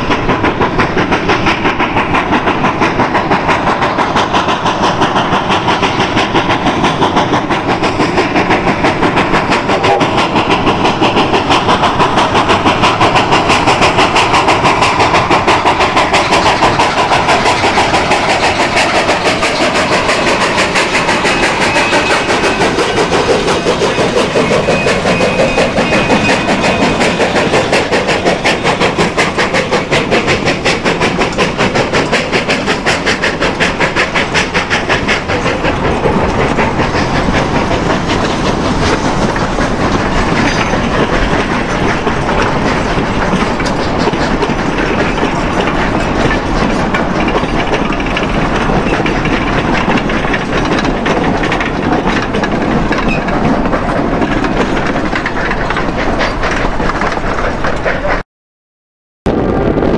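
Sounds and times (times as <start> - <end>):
coaches rumbling on rails: 0.0 - 58.2, 59.3 - 59.9
steam locomotive chugging: 0.0 - 58.2, 59.3 - 59.9.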